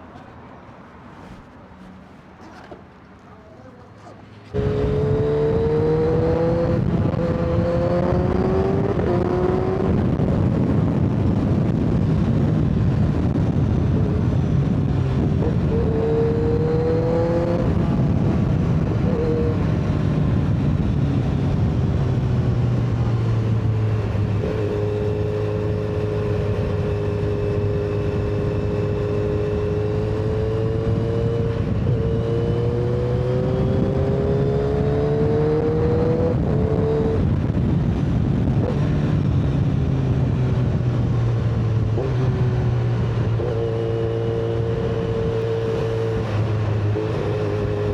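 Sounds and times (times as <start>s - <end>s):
riding wind rush: 3.8s - 47.9s
motorcycle engine revving through gears: 4.5s - 47.9s.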